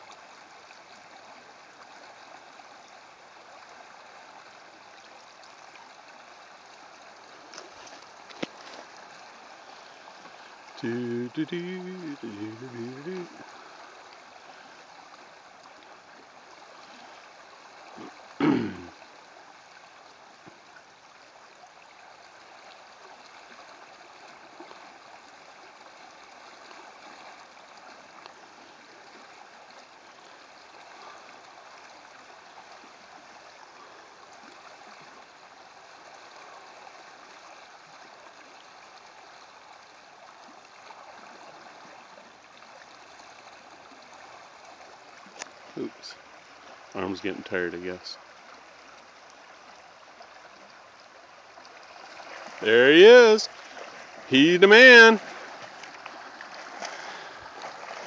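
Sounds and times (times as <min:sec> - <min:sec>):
river flowing over riffle: 0:00.0 - 0:58.0.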